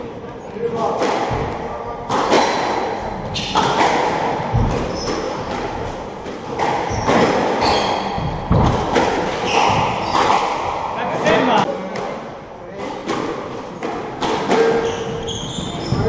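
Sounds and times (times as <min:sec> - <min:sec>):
squash ball hitting racquets and walls: 0:00.6 - 0:16.0.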